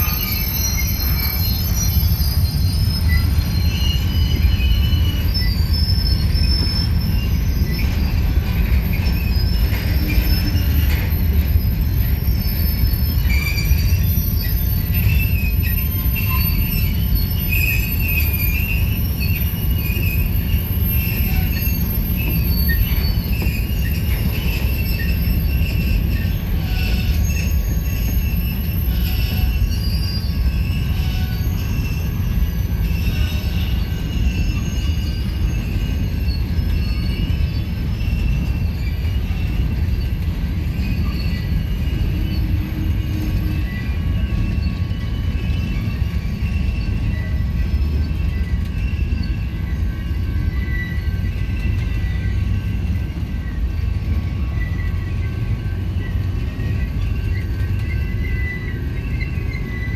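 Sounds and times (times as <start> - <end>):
freight train rumbling past: 0.0 - 59.9
high-pitched wheel squealing: 0.0 - 59.9.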